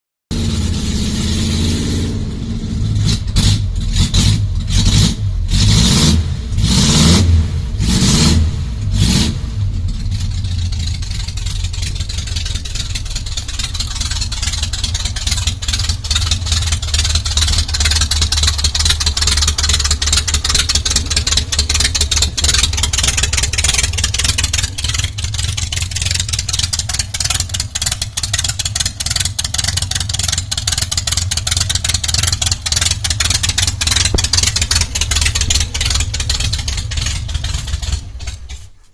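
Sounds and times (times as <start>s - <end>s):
engine revving in blips: 0.3s - 38.7s
engine rough ticking: 0.3s - 38.9s.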